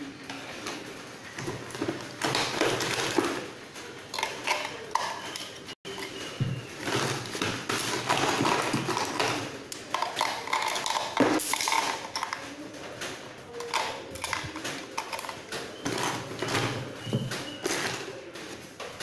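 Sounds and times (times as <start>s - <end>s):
plastic handling noise: 0.3s - 19.0s.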